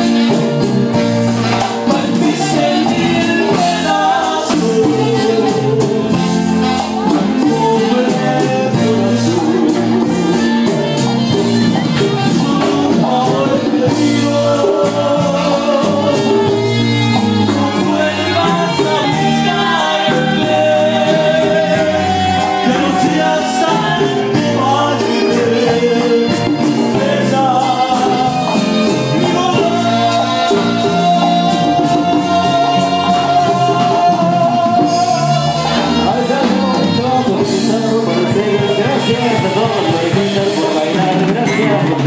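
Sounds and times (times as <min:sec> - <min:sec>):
latin dance band playing: 0:00.0 - 0:42.0
man singing into microphone: 0:00.0 - 0:42.0
metal guiro scraping beat: 0:00.0 - 0:42.0.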